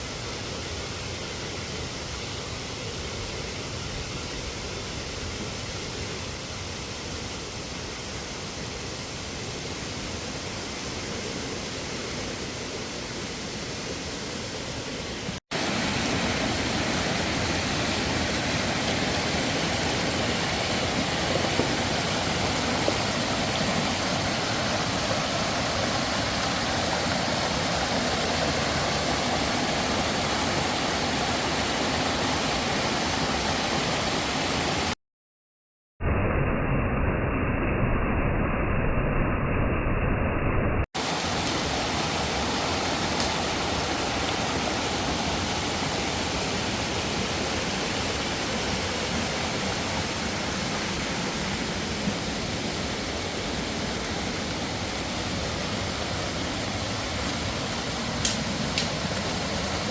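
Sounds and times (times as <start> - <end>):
rushing water: 0.0 - 35.0, 41.0 - 59.9.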